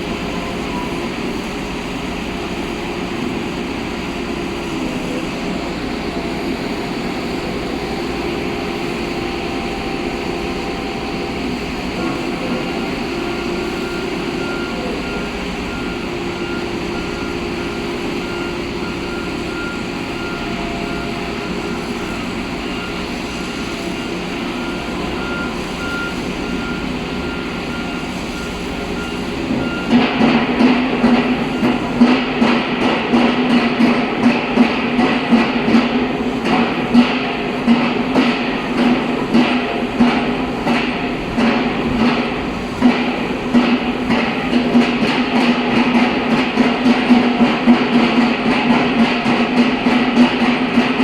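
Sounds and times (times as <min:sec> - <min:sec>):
construction machinery engines: 0:00.0 - 0:51.0
reversing alarm beeping: 0:00.0 - 0:51.0.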